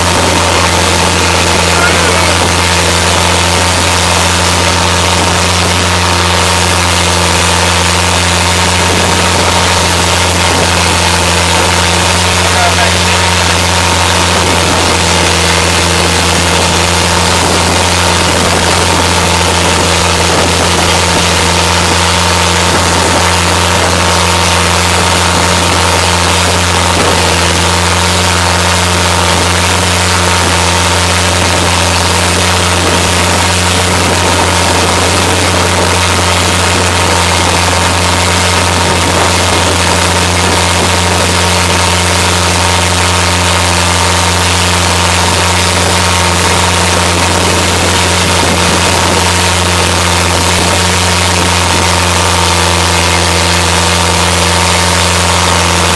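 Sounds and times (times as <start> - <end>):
boat engine drone: 0.0 - 55.9
wind and spray rushing: 0.0 - 55.9.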